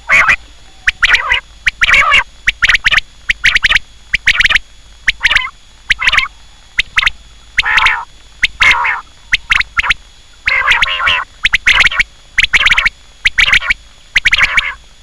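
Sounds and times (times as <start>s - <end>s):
quail calling: 0.0s - 14.8s.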